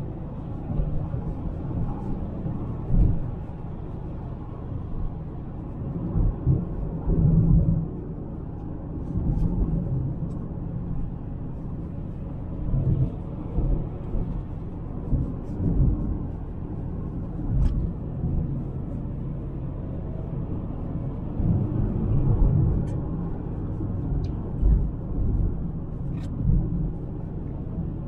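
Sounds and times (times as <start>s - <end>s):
car cabin engine rumble: 0.0s - 28.0s.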